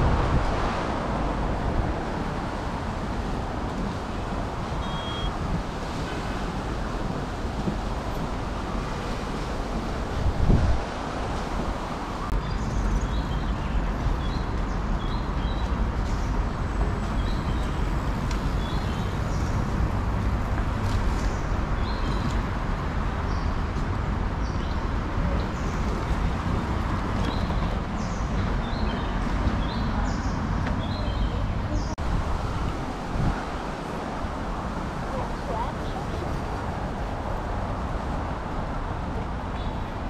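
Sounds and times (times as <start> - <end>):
low city rumble: 0.0 - 40.0.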